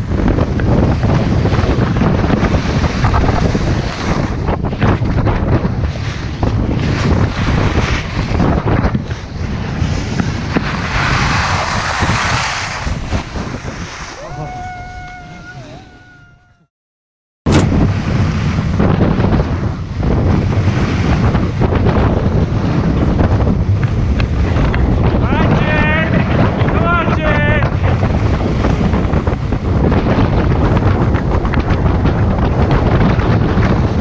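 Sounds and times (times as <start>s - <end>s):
wind buffeting microphone: 0.0s - 16.7s, 17.5s - 34.0s.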